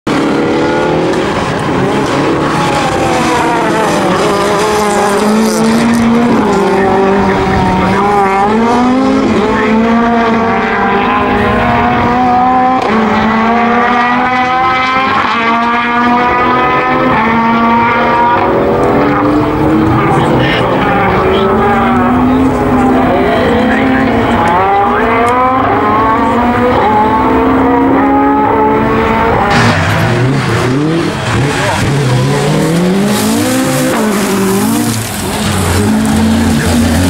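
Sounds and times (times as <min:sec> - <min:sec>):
rally car engine revving: 0:00.1 - 0:37.0.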